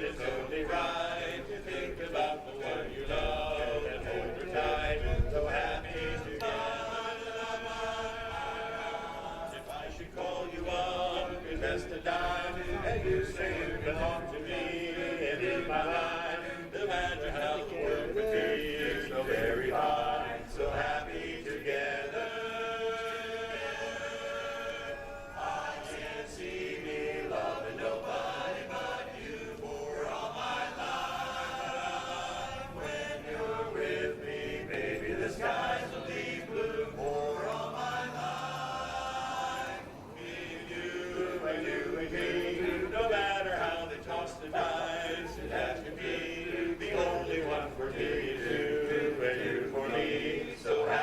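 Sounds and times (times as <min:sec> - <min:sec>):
a cappella chorus singing: 0:00.0 - 0:51.0.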